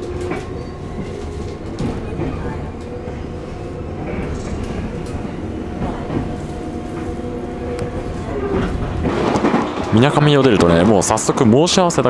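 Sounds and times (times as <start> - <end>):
train motor hum: 0.0 - 12.0
train wheels rumbling on rails: 0.0 - 12.0.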